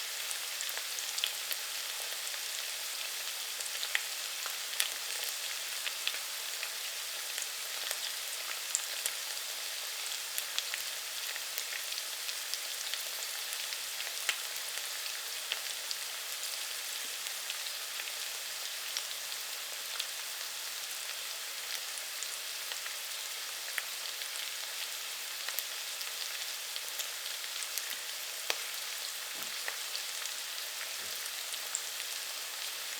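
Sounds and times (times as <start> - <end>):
food sizzling in hot oil: 0.0 - 32.9.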